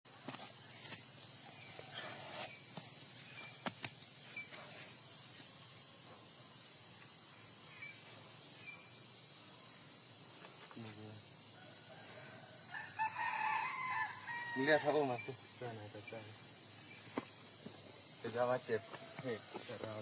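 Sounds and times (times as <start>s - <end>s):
insects buzzing: 0.1s - 20.0s.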